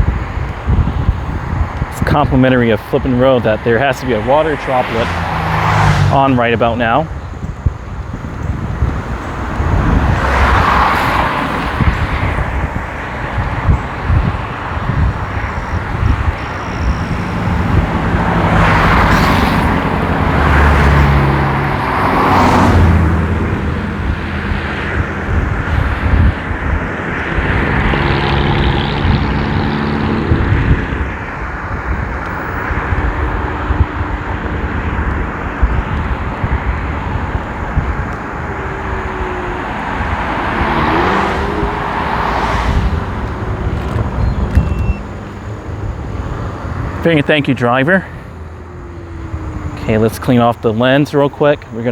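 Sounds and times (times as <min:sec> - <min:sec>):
cars passing with tyres hissing: 0:00.0 - 0:51.9
road rumble: 0:00.0 - 0:51.9
steady wind: 0:00.0 - 0:51.9.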